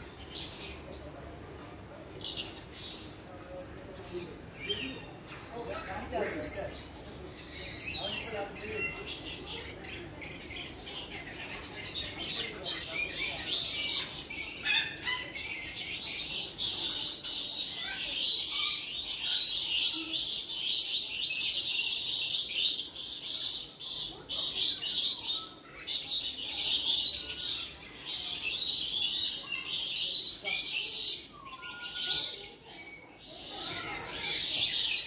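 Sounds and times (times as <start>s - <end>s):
birds chirping and squawking: 0.0s - 35.0s.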